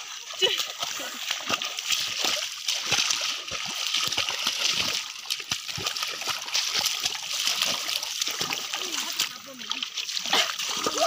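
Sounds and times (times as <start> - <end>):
water splashing from wading: 0.0 - 11.0.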